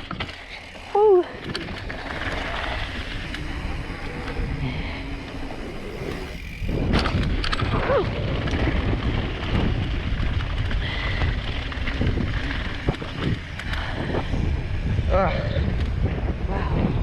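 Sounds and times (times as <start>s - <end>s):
bike rattling and knocking: 0.0s - 17.0s
wind buffeting microphone: 0.0s - 17.0s.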